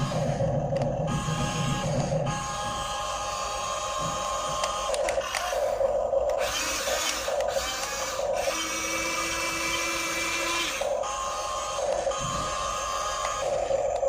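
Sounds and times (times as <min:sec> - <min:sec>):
small electric motors whirring: 0:00.0 - 0:14.0
steady motor whine: 0:00.0 - 0:14.0.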